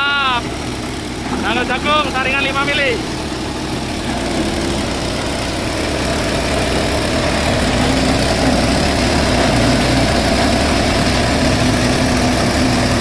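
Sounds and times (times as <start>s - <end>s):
grinder machine grinding corn cobs: 0.0s - 13.0s.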